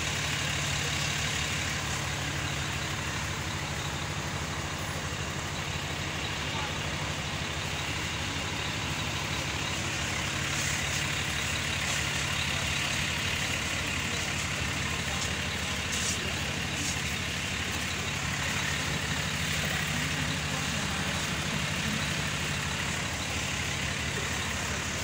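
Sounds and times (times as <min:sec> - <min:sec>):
ferry engine drone: 0:00.0 - 0:25.0.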